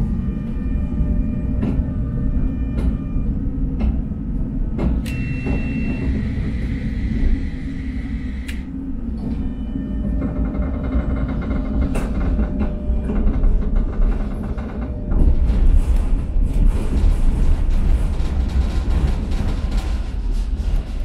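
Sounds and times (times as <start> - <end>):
tram wheels rumbling on rails: 0.0 - 21.0.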